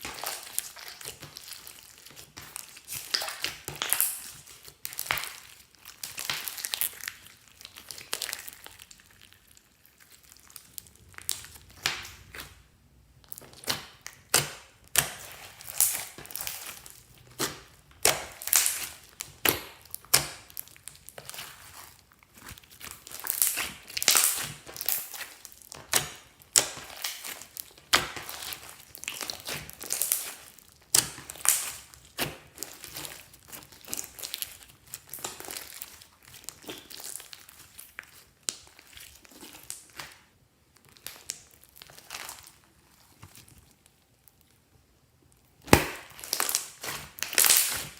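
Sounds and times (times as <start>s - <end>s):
slime squishing by hand: 0.0s - 47.9s.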